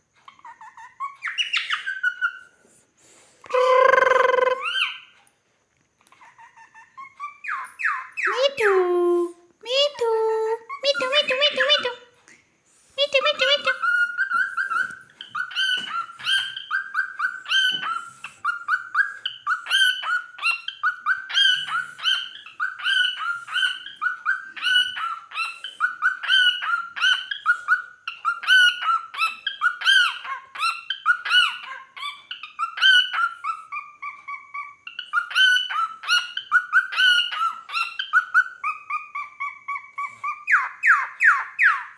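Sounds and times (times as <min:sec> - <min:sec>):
cockatiel chirping: 0:00.2 - 0:02.5, 0:03.6 - 0:05.2, 0:06.1 - 0:08.5, 0:13.0 - 0:41.9.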